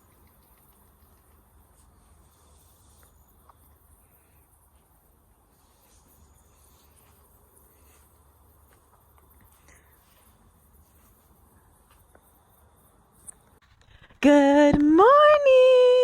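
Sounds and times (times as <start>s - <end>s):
faint cricket chirps: 0.0s - 16.0s.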